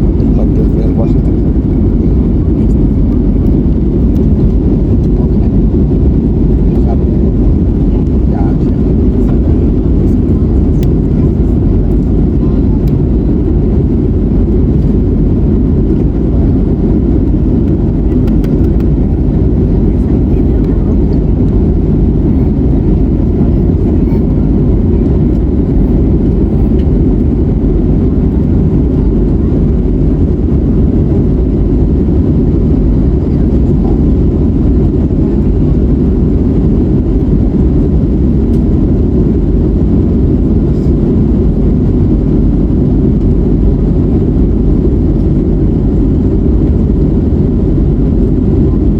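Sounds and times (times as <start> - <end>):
jet engines and airflow rumble: 0.0 - 48.9.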